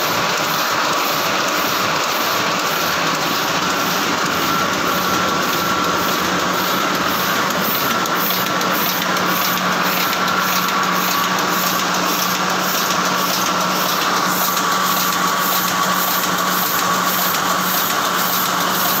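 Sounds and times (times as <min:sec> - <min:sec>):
printing press clattering: 0:00.0 - 0:19.0.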